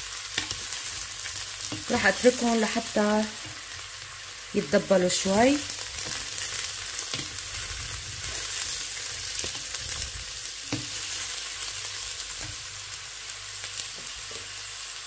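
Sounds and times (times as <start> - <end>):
mushrooms sizzling in pot: 0.0 - 15.0.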